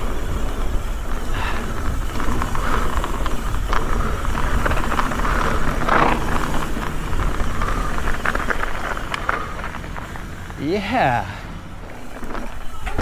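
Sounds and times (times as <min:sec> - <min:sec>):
bike tyres rolling on dirt: 0:00.0 - 0:13.0.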